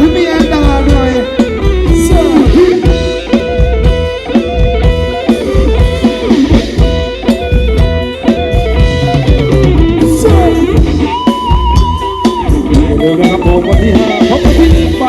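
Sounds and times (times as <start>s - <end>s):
electric guitar melody: 0.0s - 15.0s
live band dance music: 0.0s - 15.0s.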